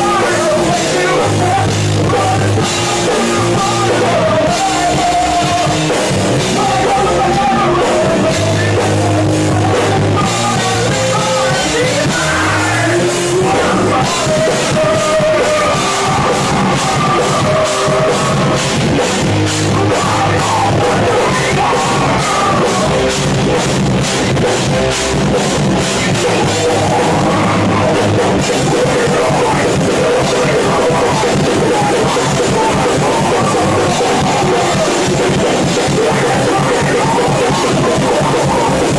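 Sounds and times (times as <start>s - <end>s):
drum kit: 0.0s - 38.9s
electric guitar: 0.0s - 38.9s
person singing and shouting: 0.0s - 38.9s.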